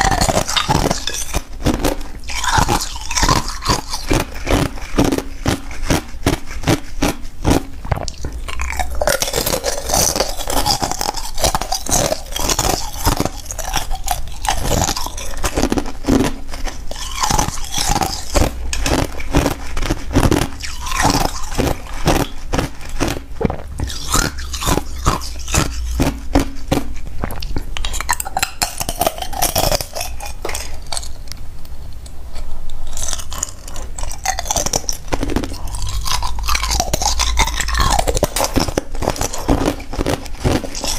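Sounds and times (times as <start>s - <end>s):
ice crunching while chewed: 0.0s - 31.4s, 32.4s - 40.9s.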